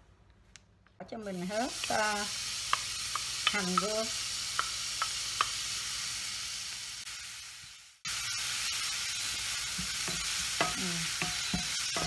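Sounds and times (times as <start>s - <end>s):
onions sizzling in hot oil: 1.2s - 12.0s.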